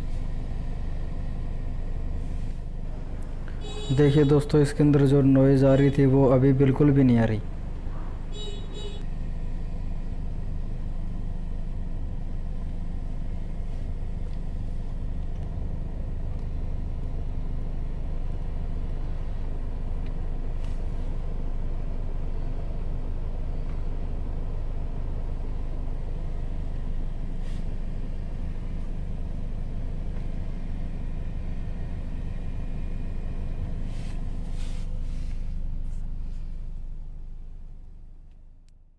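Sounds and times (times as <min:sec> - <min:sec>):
car cabin hum with ac running: 0:00.0 - 0:38.9.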